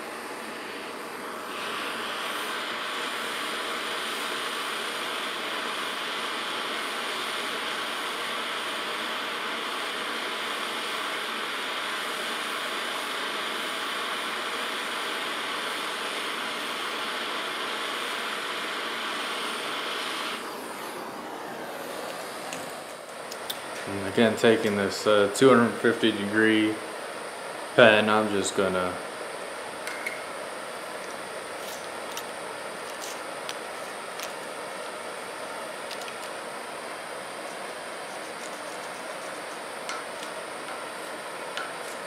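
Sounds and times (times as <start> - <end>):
propane torch hissing: 0.0 - 42.0.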